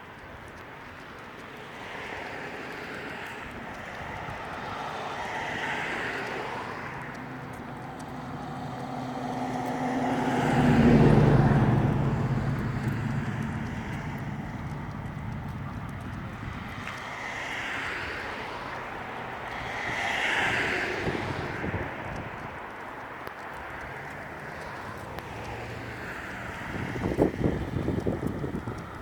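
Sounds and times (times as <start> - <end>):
vehicles passing faintly: 0.0 - 29.0
car passing close: 1.1 - 29.0.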